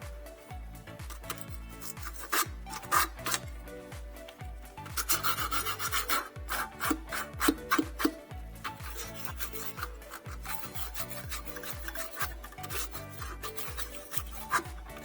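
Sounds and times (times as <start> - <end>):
upbeat pop music with kick drum: 0.0 - 15.0
rough rasping scraping strokes: 1.1 - 3.8, 4.8 - 15.0.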